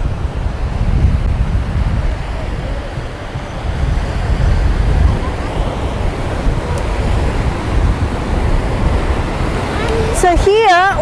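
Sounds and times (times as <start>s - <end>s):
ocean surf on sandy beach: 0.0s - 11.0s
wind buffeting microphone: 0.0s - 11.0s.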